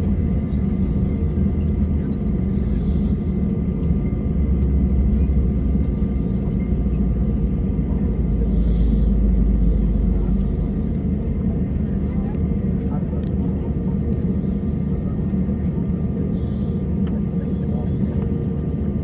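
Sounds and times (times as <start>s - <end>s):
aircraft cabin rumble: 0.0s - 19.0s
faint aircraft system whines: 0.0s - 19.0s.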